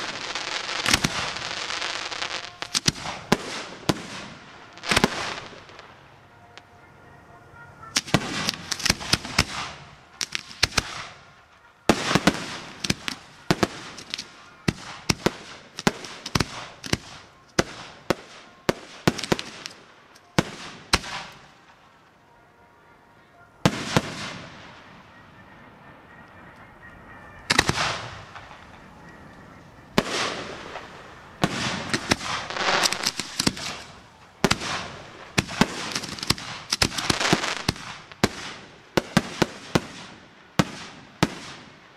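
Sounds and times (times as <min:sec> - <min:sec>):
fireworks bangs with crackle: 0:00.0 - 0:06.0, 0:07.8 - 0:21.8, 0:23.6 - 0:25.5, 0:27.0 - 0:41.9.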